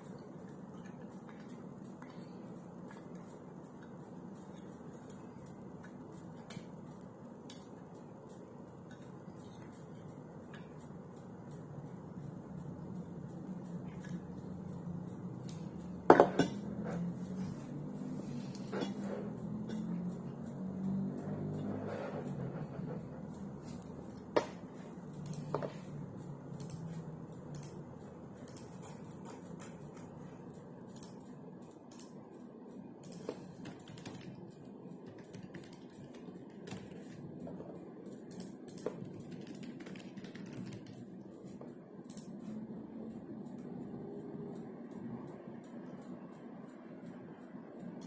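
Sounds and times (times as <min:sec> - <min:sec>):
low steady hum: 0:00.0 - 0:48.0
typing on computer keyboard: 0:00.0 - 0:48.0.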